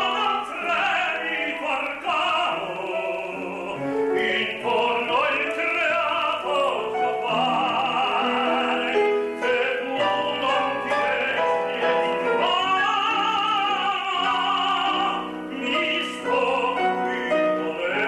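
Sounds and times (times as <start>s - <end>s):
male operatic tenor singing: 0.0s - 18.0s.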